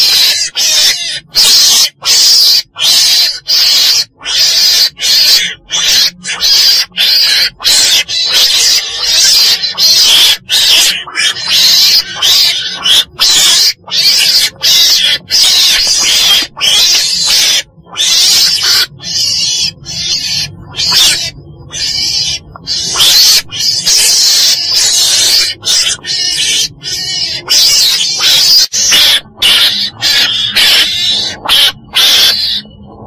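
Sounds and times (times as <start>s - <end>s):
weasel harsh hissy cries: 0.0s - 32.6s.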